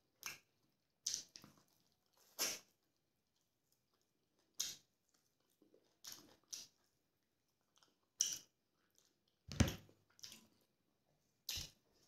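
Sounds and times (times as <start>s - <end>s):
chewing smacks: 0.1s - 10.8s.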